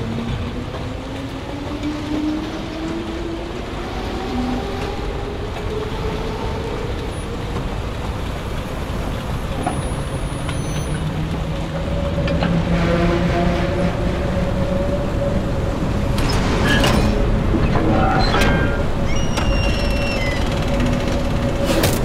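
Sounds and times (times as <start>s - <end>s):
roller coaster rumble and whine: 0.0s - 22.0s.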